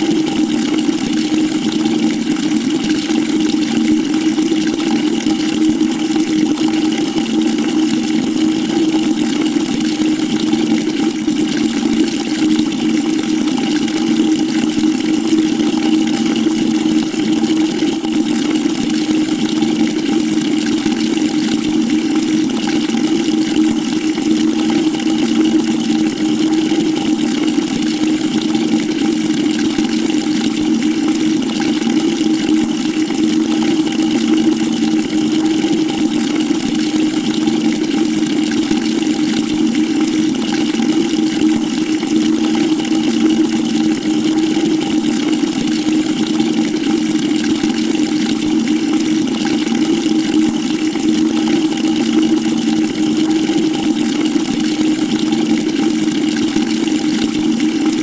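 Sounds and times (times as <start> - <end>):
water pouring into a bucket: 0.0 - 58.0.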